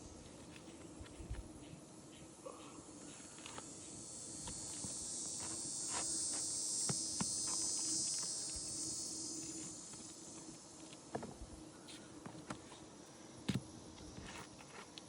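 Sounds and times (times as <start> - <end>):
shrill insect chorus: 0.0 - 14.9.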